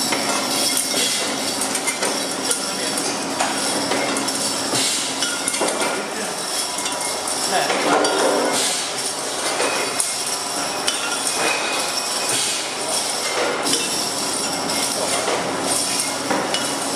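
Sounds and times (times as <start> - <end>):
capping machine clatter: 0.0 - 16.9
glass bottles clinking: 0.0 - 16.9.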